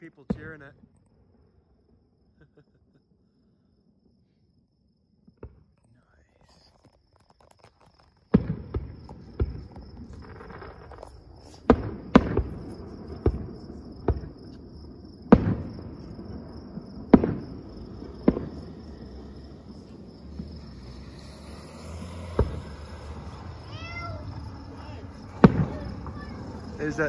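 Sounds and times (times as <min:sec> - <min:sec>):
distant fireworks bangs: 0:00.1 - 0:01.6, 0:05.3 - 0:27.0.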